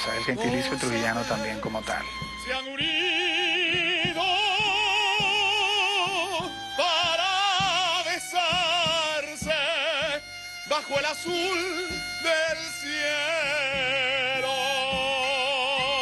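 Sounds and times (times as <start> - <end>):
string ensemble playing: 0.0 - 16.0
man singing operatically: 0.1 - 16.0.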